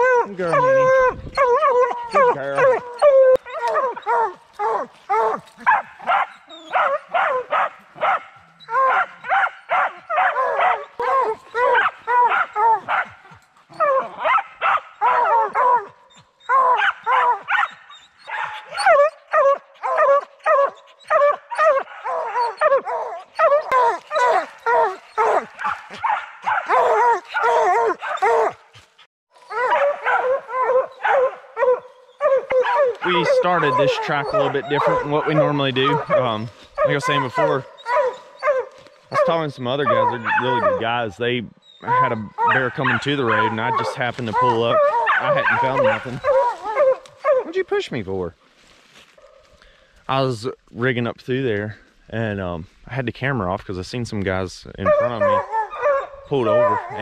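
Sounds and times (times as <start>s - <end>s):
hounds bawling and barking: 0.0s - 48.0s, 54.8s - 57.0s.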